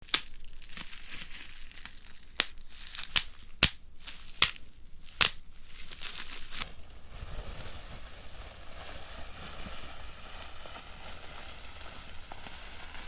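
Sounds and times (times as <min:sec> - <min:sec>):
bubble wrap popping: 0:00.0 - 0:13.0
plastic sheet crinkling: 0:00.0 - 0:13.0.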